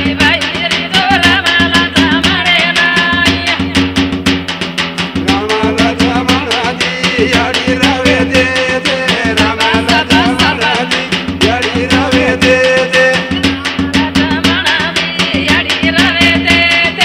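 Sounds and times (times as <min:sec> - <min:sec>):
women singing together: 0:00.0 - 0:03.8, 0:05.3 - 0:17.0
frame drum beating: 0:00.0 - 0:17.0.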